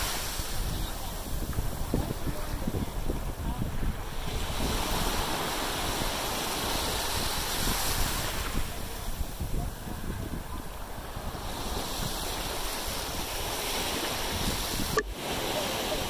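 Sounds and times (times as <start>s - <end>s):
surf on beach: 0.0s - 16.0s
wave washing in: 0.0s - 16.0s
wind buffeting microphone: 0.0s - 16.0s.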